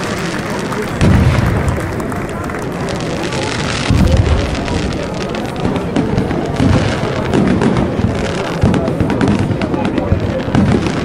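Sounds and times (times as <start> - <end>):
fireworks booming: 0.0 - 11.0
fireworks crackling: 0.0 - 11.0.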